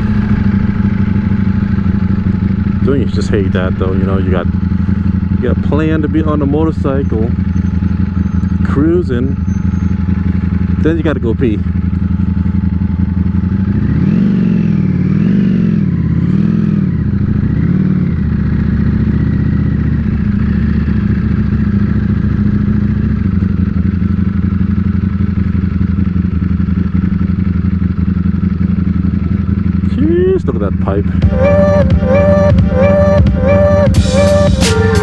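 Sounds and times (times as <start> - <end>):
motorcycle engine revving: 0.0 - 30.1.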